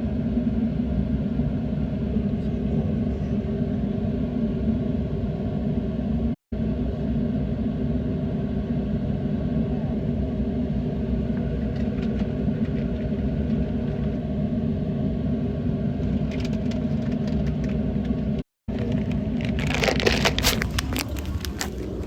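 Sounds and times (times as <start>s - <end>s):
boat engine rumble: 0.0s - 22.0s.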